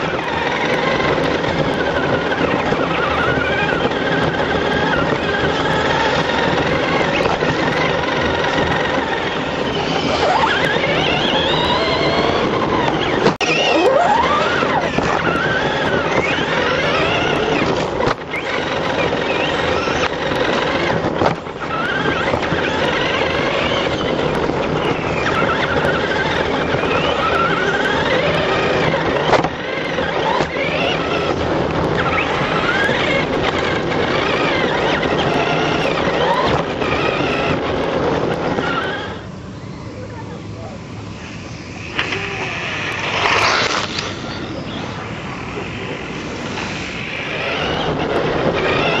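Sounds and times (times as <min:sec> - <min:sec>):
remote-control truck motors whining: 0:00.0 - 0:40.3, 0:41.3 - 0:49.0.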